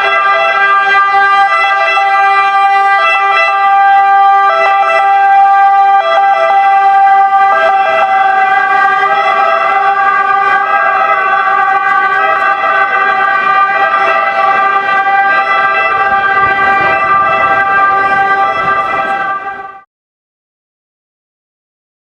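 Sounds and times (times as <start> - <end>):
ambulance siren: 0.0 - 19.9
street noise: 0.0 - 19.9.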